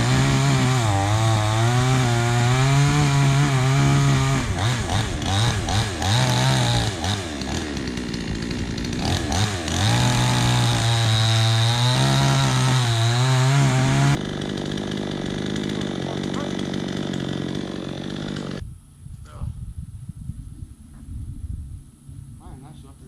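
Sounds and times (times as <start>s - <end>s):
chainsaw cutting into tree trunk: 0.0s - 18.6s.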